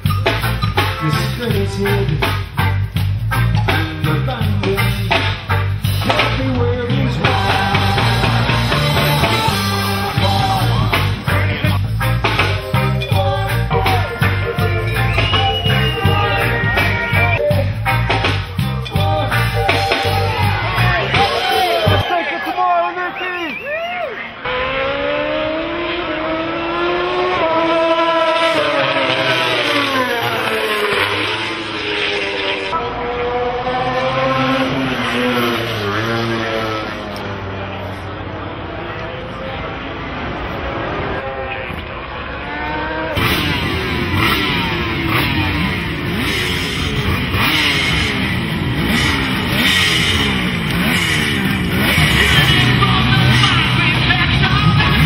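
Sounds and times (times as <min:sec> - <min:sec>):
racing motorcycle engine: 0:00.0 - 0:22.2, 0:23.4 - 0:55.0.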